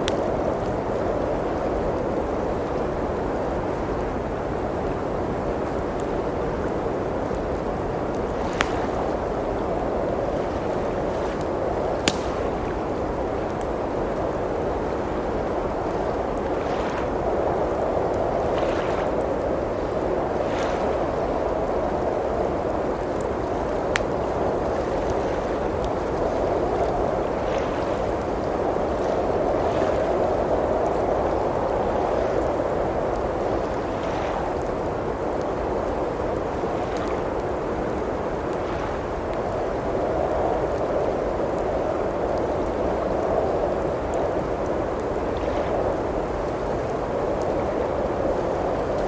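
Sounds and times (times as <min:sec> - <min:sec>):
blizzard wind rushing: 0:00.0 - 0:49.0
faint wood fire crackles: 0:00.0 - 0:49.0.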